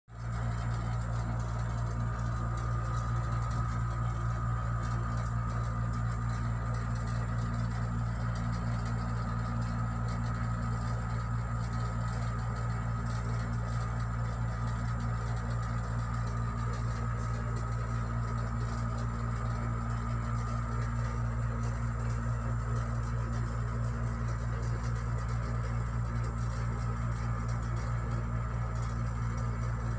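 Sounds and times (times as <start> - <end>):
low machine hum: 0.1 - 29.9.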